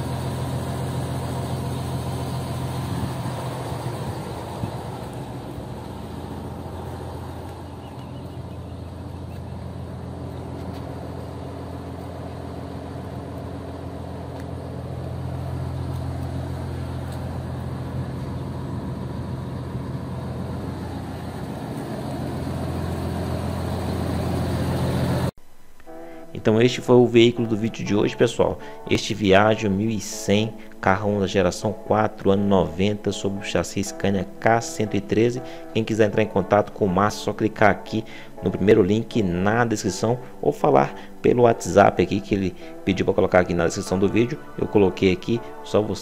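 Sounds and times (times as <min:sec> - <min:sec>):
diesel engine idling: 0:00.0 - 0:26.4, 0:27.2 - 0:46.0.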